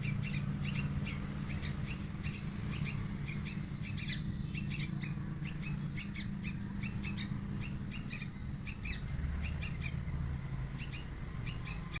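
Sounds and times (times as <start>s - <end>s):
steady low hum: 0.0s - 12.0s
young bulbul chirping: 0.0s - 12.0s.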